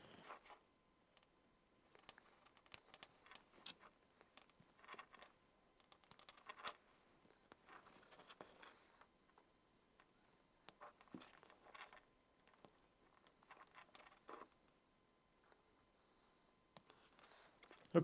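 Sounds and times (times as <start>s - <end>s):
hands rustling wires: 0.0s - 14.8s.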